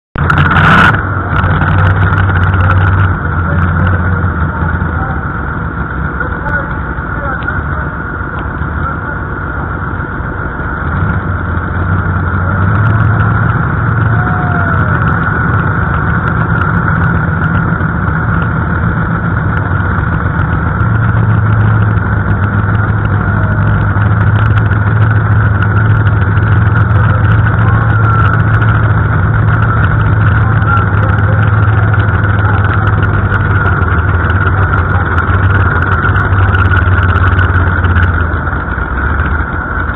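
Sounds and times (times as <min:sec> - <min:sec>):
tractor engine idling: 0:00.1 - 0:39.9.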